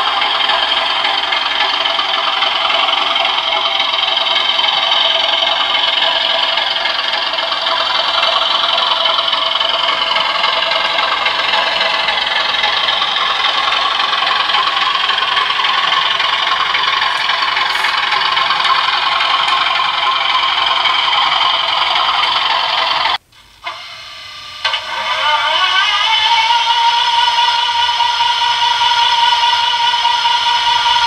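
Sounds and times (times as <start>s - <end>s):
model train diesel engine sound: 0.0s - 31.0s.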